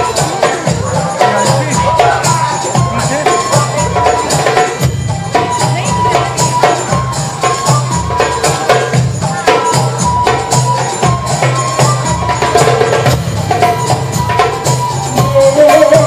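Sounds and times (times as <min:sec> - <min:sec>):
music with percussive beat: 0:00.0 - 0:16.0.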